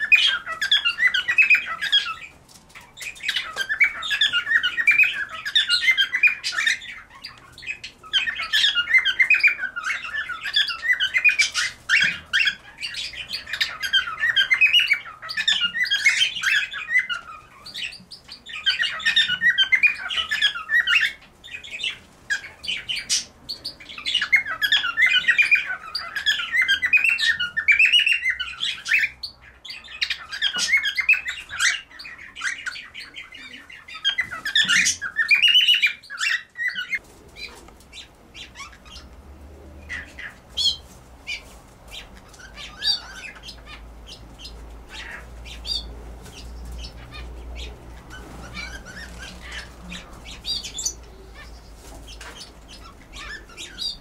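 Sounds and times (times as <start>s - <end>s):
birds chattering and squawking: 0.0s - 54.0s.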